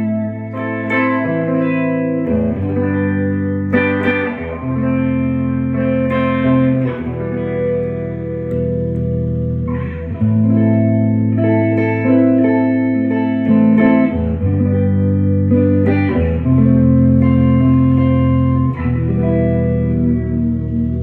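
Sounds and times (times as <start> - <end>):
electric guitar strummed chords: 0.0 - 21.0.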